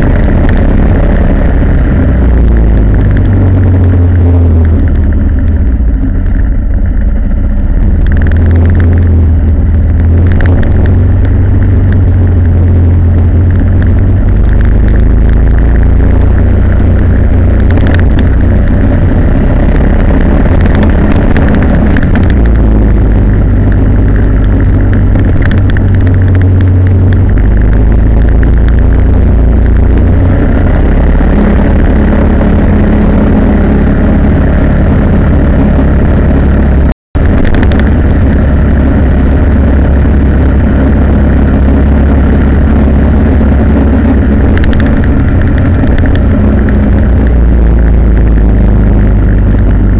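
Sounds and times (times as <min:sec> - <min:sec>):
vehicle engine and road noise: 0:00.0 - 0:49.9.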